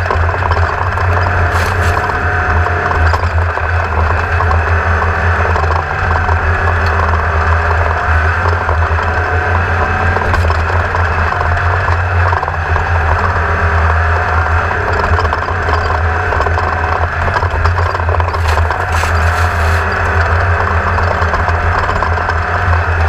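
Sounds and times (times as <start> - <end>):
race car engine running: 0.0 - 23.0.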